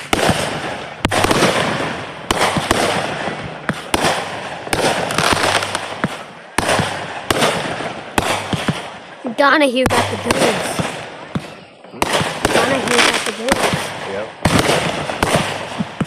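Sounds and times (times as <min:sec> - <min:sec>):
fireworks bangs with crackle: 0:00.0 - 0:16.0.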